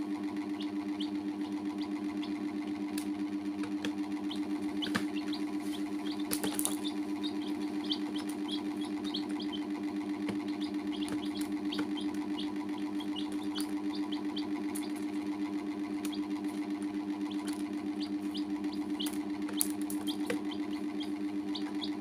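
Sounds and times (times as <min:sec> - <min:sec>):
baby chicks peeping: 0:00.0 - 0:22.0
low pulsing hum: 0:00.0 - 0:22.0.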